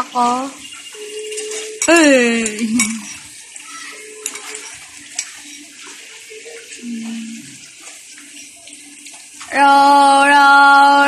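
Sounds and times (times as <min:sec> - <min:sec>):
floodwater flowing: 0:00.0 - 0:11.0.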